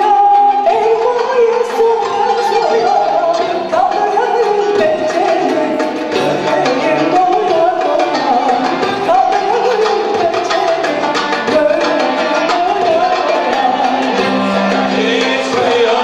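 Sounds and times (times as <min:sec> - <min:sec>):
percussion and instruments: 0:00.0 - 0:16.0
woman singing: 0:00.0 - 0:16.0.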